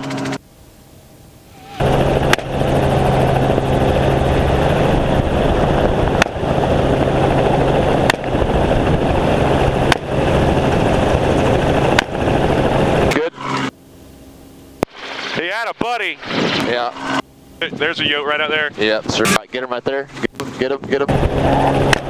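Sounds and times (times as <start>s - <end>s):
helicopter engine and rotor: 0.0s - 19.5s, 20.1s - 22.0s.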